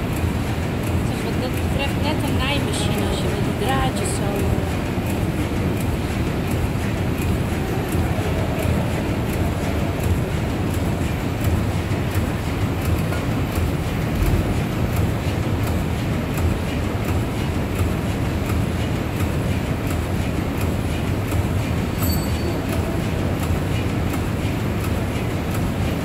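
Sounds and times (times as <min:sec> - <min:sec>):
light mechanical ticks: 0:00.0 - 0:26.0
steam engines rumbling and clattering: 0:00.0 - 0:26.0.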